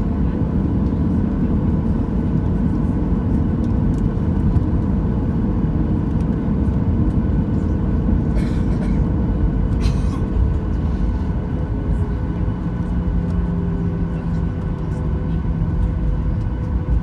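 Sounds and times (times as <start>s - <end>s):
aircraft cabin engine rumble: 0.0s - 17.0s
low engine tone: 0.0s - 17.0s.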